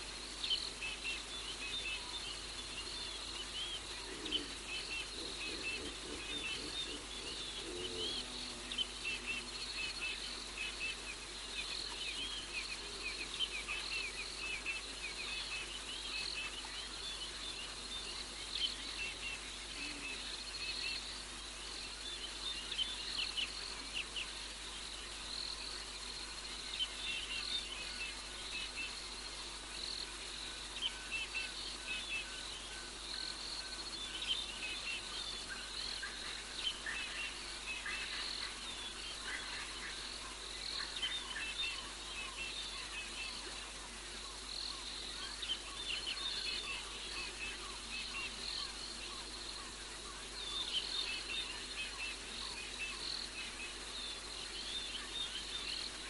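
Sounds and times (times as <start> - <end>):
crickets chirping: 0.0 - 56.0
steady high insect trill: 0.0 - 56.0.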